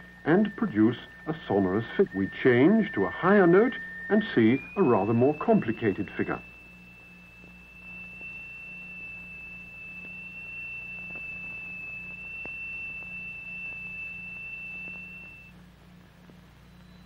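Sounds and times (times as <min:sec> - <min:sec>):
high-pitched pure tone: 0:00.0 - 0:15.6
faint low hum: 0:00.0 - 0:17.0.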